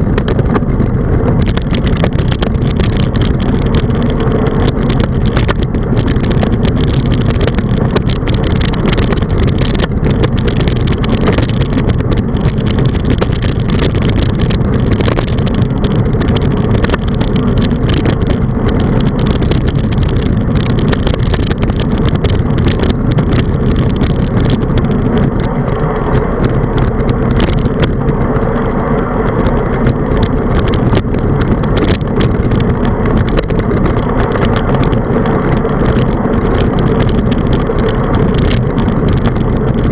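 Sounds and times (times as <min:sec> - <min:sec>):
small clicks and rattles: 0:00.0 - 0:39.9
tyre noise on asphalt: 0:00.0 - 0:39.9
wind buffeting microphone: 0:00.0 - 0:39.9.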